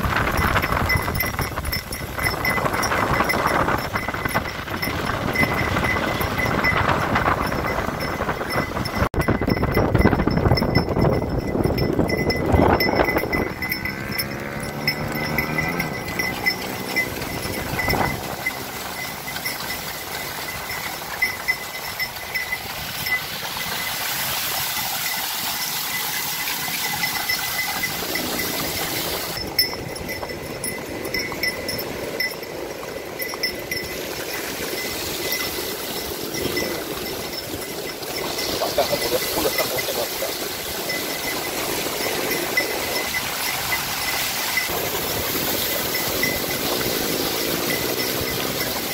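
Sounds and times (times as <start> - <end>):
cart wheels through shallow water: 0.0 - 48.9
harness bells jingling: 0.0 - 48.9
wind and surf: 0.0 - 48.9.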